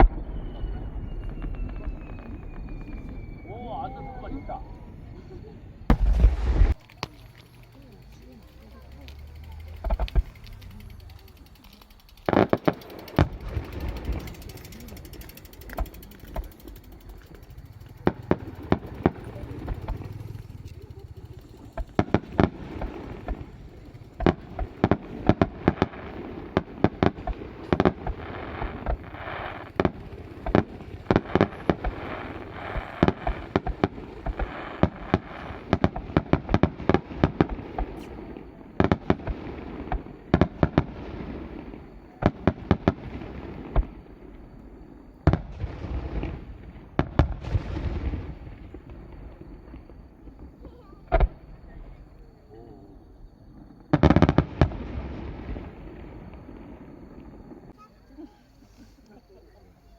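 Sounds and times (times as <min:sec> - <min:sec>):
fireworks bangs: 0:00.0 - 0:57.9
fireworks crackling: 0:00.0 - 0:59.9.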